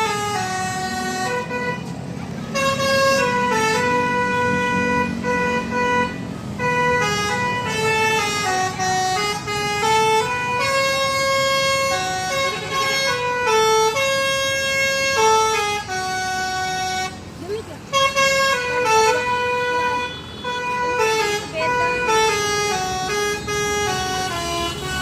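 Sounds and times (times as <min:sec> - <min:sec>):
bus horn playing melody: 0:00.0 - 0:25.0.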